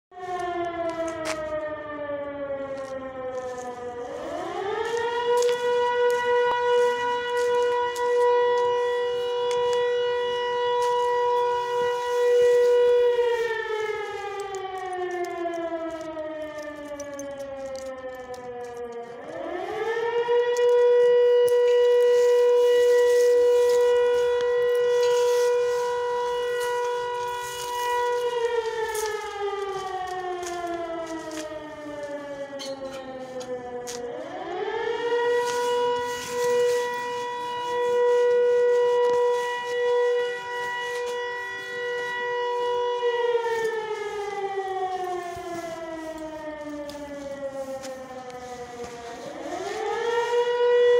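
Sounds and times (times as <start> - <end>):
air-raid siren wailing: 0.1 - 50.9.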